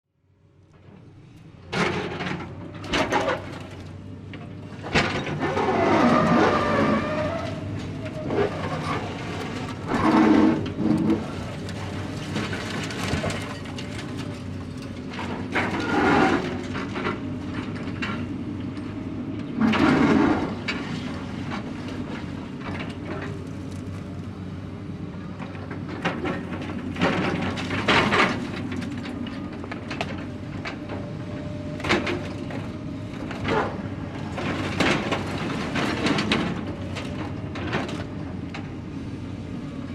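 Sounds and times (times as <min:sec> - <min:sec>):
clanks knocks and scrapes: 0:01.7 - 0:18.3, 0:19.5 - 0:24.0, 0:25.4 - 0:31.1, 0:31.8 - 0:38.1.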